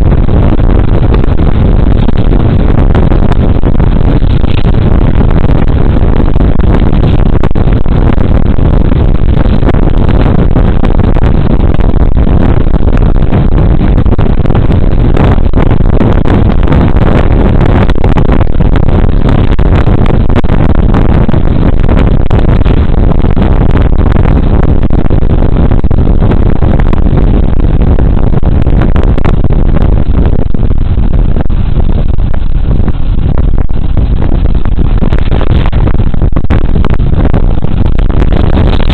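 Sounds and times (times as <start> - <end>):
wind rush and road noise: 0.0 - 38.9.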